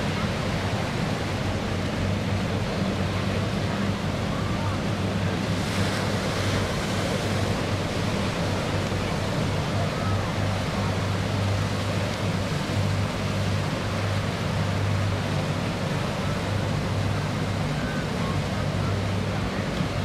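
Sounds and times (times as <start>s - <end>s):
distant helicopter hum: 0.0s - 20.0s
surf: 0.0s - 20.0s.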